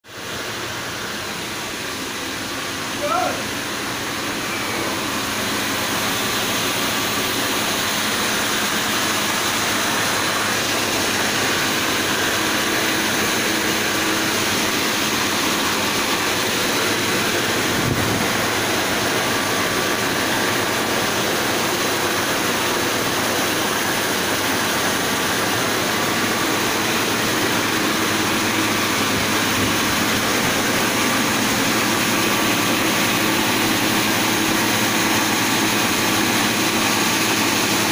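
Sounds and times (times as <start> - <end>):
flour mill machine running: 0.0 - 37.9.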